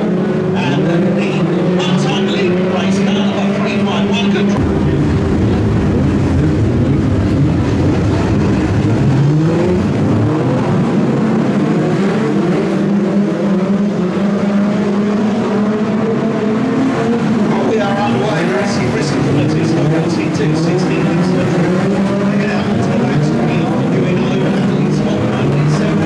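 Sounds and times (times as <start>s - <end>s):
engine revving: 0.0s - 26.0s
stock car engines running: 0.0s - 26.0s.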